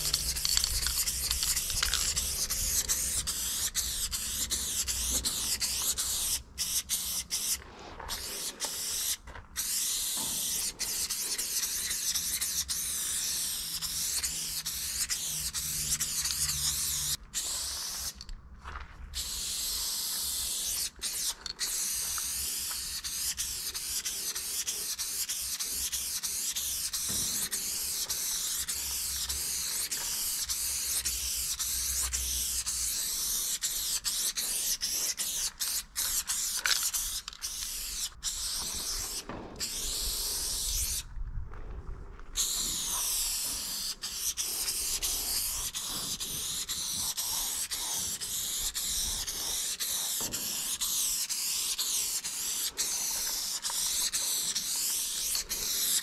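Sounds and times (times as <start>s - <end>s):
spray paint can hissing: 0.0s - 18.3s, 19.1s - 41.0s, 42.4s - 56.0s.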